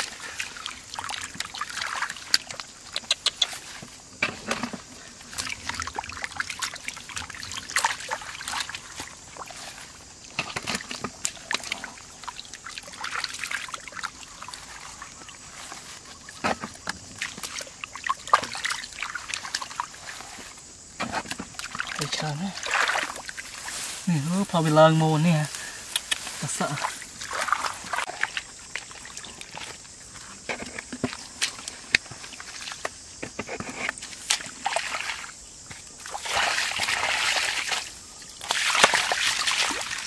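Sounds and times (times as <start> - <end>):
small splashes: 0.0 - 33.0, 34.0 - 40.0
muddy water sloshing: 0.0 - 40.0.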